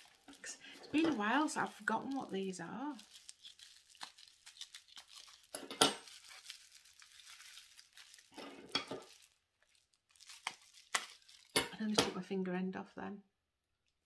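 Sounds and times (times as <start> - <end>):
wrap ripping: 0.0 - 11.6
packaging wrap crinkling and tearing: 0.0 - 11.8.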